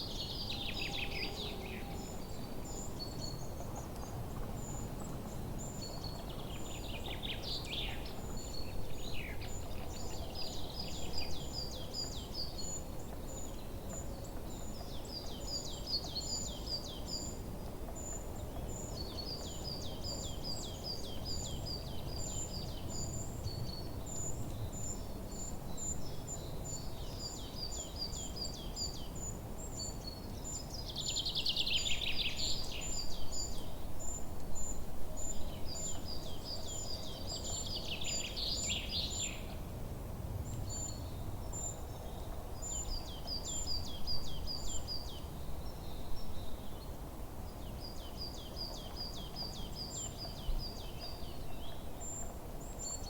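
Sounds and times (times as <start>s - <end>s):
low steady background noise: 0.0s - 53.0s.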